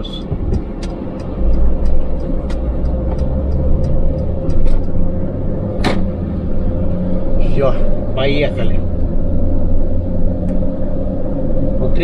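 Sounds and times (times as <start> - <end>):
truck engine rumble in cab: 0.0 - 12.0.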